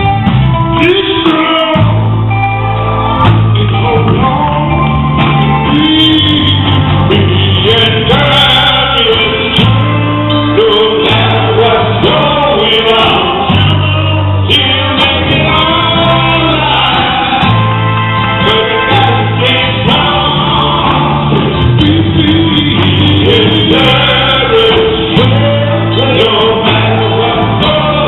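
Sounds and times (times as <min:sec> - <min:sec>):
bass line: 0:00.0 - 0:28.0
gospel group singing with band: 0:00.0 - 0:28.0.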